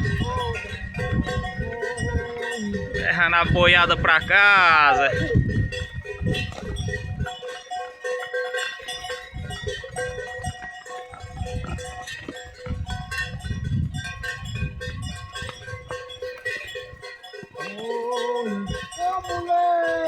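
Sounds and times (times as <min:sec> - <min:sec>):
cattle bells clanking: 0:00.0 - 0:20.0.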